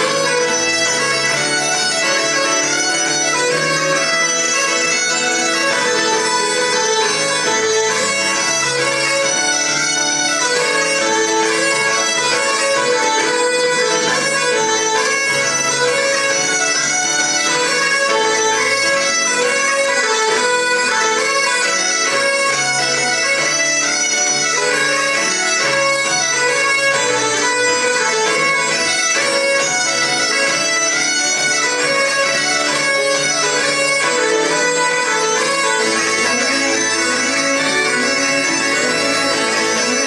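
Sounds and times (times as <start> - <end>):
bagpipes playing: 0.0 - 40.0
fiddle: 0.0 - 40.0
keyboard: 0.0 - 40.0.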